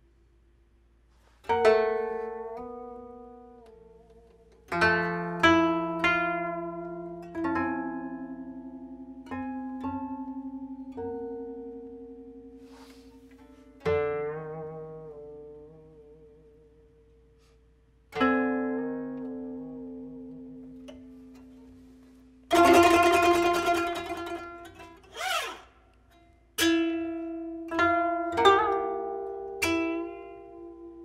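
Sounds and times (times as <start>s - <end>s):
koto plucked notes: 1.4s - 31.0s.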